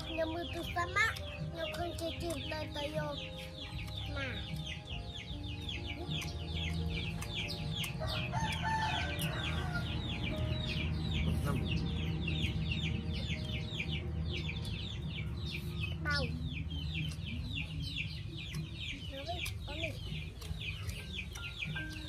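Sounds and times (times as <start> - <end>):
chickens cheeping: 0.0 - 22.0.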